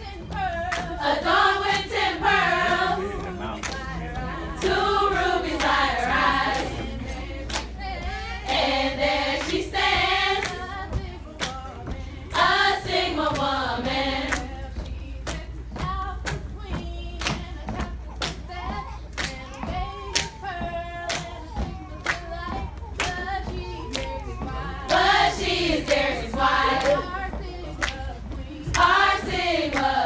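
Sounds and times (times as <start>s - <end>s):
women singing together: 0.0s - 30.0s.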